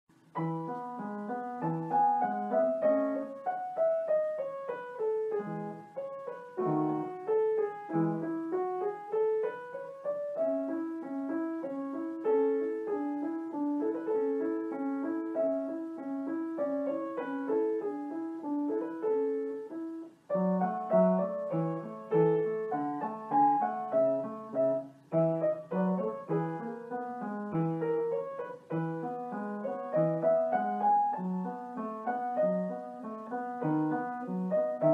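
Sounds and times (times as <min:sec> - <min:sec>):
piano melody: 0:00.1 - 0:34.9.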